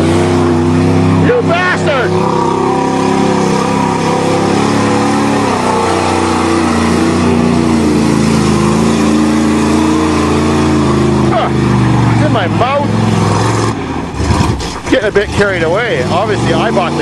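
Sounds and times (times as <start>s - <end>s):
truck engine running hard: 0.0s - 17.0s.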